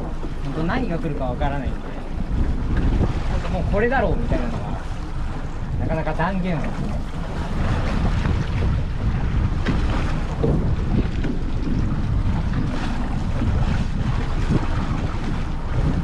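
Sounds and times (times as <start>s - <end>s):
sea noise: 0.0s - 16.0s
wind buffeting microphone: 0.0s - 16.0s.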